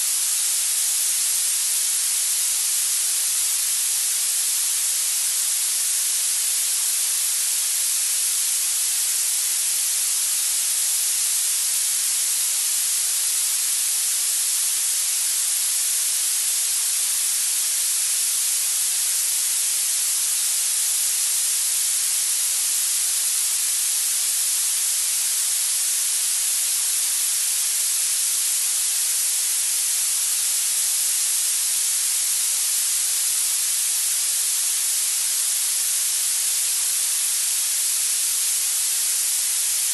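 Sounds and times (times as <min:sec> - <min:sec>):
steady high hissing noise: 0:00.0 - 0:39.9.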